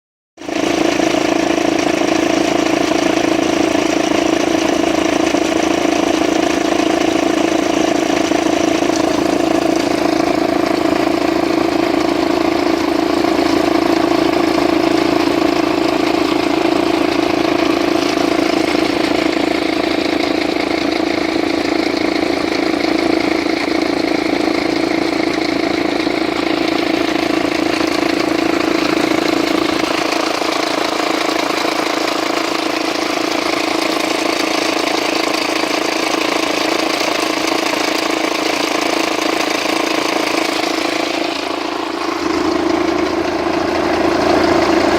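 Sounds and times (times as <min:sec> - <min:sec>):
diesel engine idling: 0:00.4 - 0:44.9
weird engine sound: 0:00.4 - 0:44.9.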